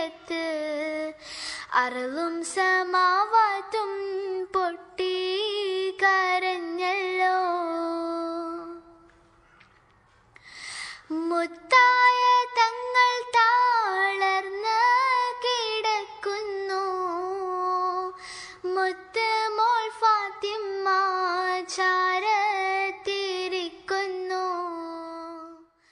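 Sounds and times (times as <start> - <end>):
young person singing unaccompanied: 0.0 - 9.1, 11.0 - 25.7.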